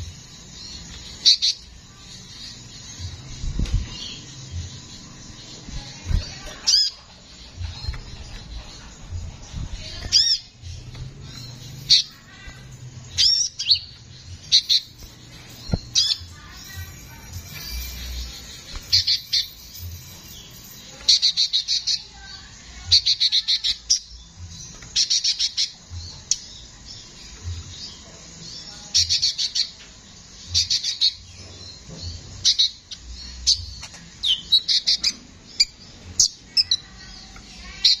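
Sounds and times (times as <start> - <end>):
sunbird singing harsh chips and trills: 0.0 - 38.0.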